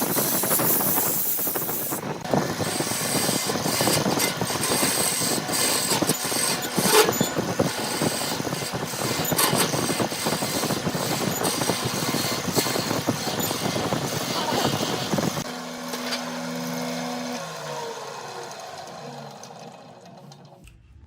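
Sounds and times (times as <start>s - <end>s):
power tool rasping wood: 0.0s - 20.5s.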